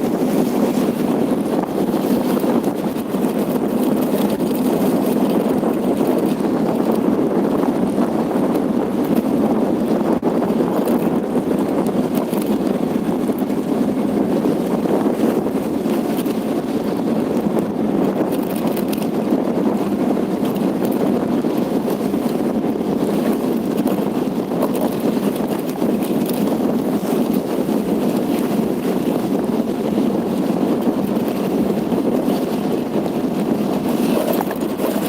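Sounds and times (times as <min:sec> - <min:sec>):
wind on microphone: 0:00.0 - 0:35.0.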